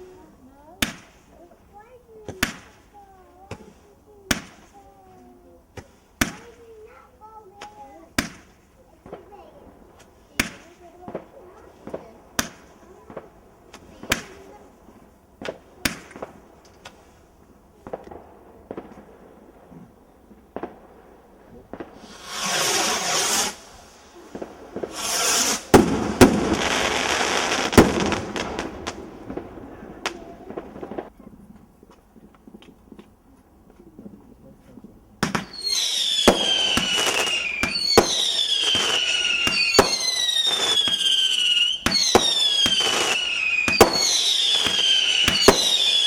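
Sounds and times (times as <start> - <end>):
fireworks hissing: 0.0 - 33.3, 34.5 - 46.0
dense fireworks crackling: 0.0 - 46.0
fireworks cracking: 0.0 - 46.0
loud fireworks bangs: 0.0 - 46.0.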